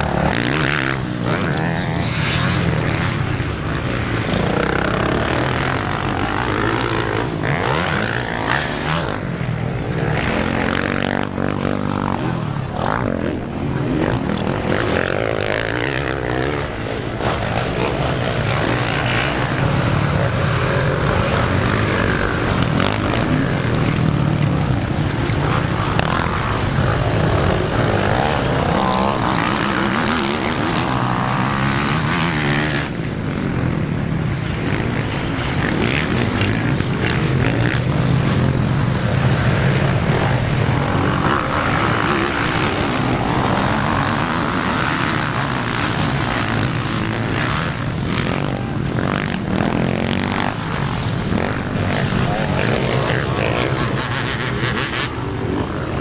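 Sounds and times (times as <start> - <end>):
motocross bikes racing: 0.0 - 56.0.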